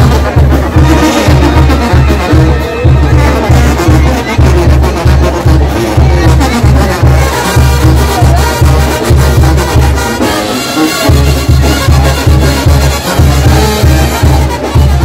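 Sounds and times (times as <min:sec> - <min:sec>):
brass band playing: 0:00.0 - 0:15.0
deep bass notes: 0:00.0 - 0:15.0.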